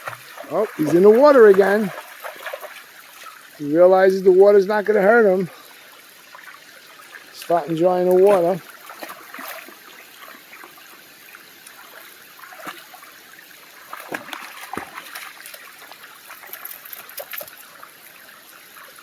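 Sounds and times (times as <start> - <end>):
water splashes: 0.0 - 19.0
water trickling over waterfall: 0.0 - 19.0.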